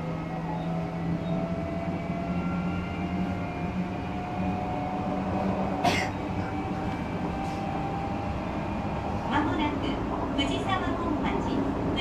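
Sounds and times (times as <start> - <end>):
wheels humming on rail: 0.0 - 12.0.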